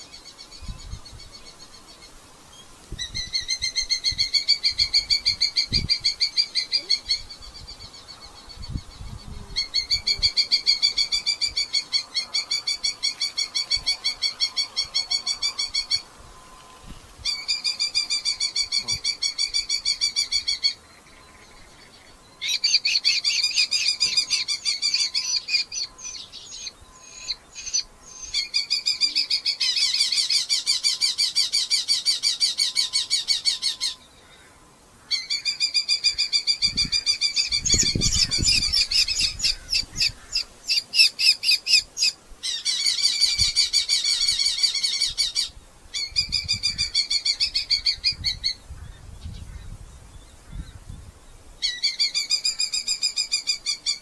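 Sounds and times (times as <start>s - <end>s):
falcons calling shrilly: 3.0s - 8.7s, 9.5s - 20.8s, 22.4s - 48.9s.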